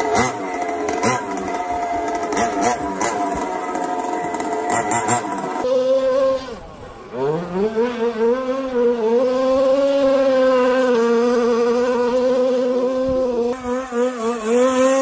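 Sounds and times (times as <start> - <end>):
buzzy toy car engine: 0.0 - 15.0.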